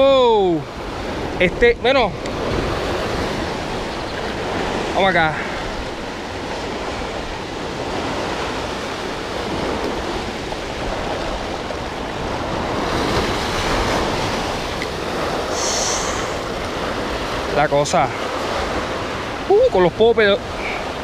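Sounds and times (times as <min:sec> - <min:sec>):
ocean surf on rocks: 0:00.0 - 0:21.0.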